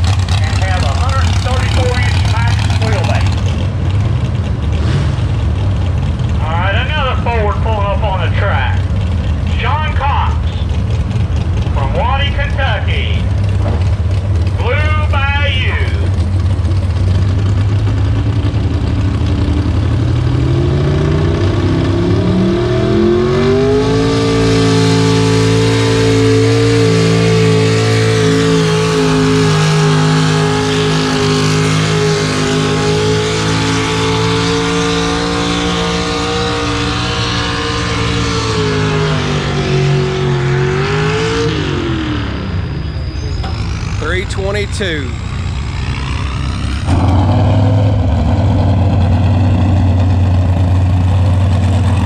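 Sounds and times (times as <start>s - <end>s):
truck engine revving under load: 0.0s - 52.0s.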